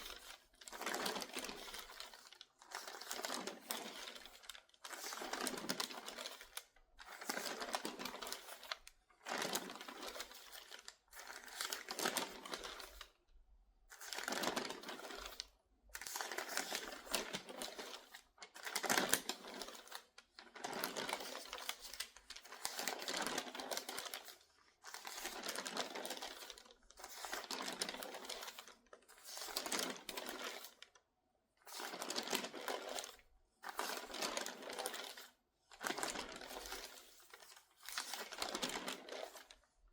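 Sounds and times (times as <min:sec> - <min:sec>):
newspaper pages turning: 0:00.0 - 0:13.1, 0:14.0 - 0:31.0, 0:31.7 - 0:39.8.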